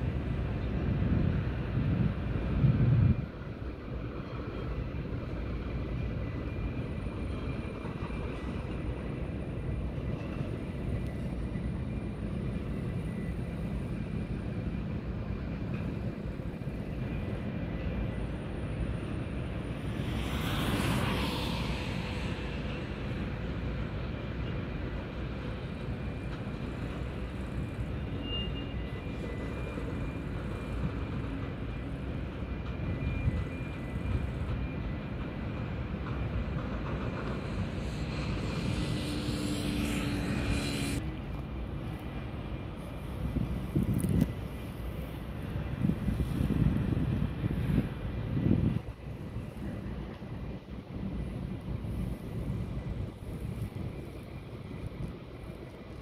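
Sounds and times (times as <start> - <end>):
faint steady tones: 0.0 - 56.0
freight train rumbling: 0.0 - 56.0.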